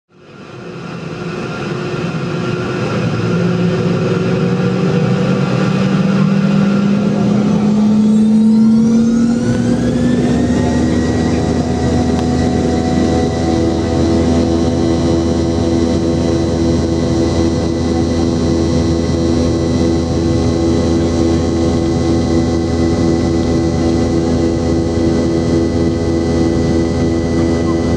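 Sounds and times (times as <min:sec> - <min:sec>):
jet engines spooling up: 0:00.2 - 0:27.9
whines rising in pitch: 0:00.9 - 0:27.9
low rumble: 0:01.1 - 0:27.9.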